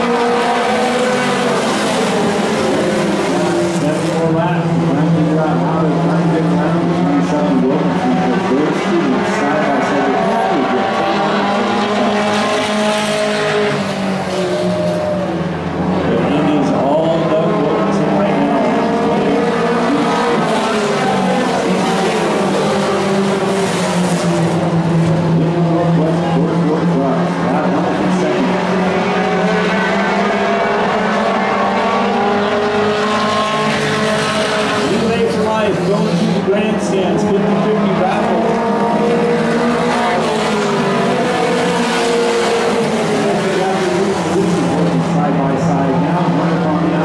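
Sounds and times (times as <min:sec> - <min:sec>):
race truck engines at full throttle: 0:00.0 - 0:47.0.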